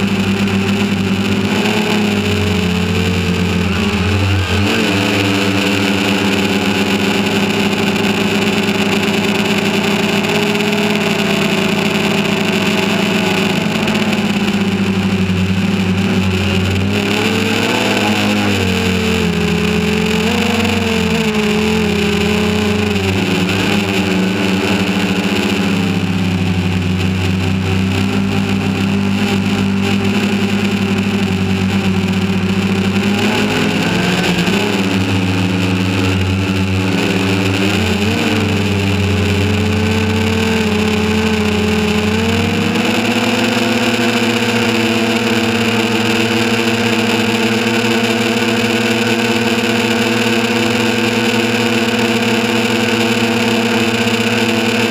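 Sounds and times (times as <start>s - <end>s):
drone motors humming: 0.0s - 54.9s.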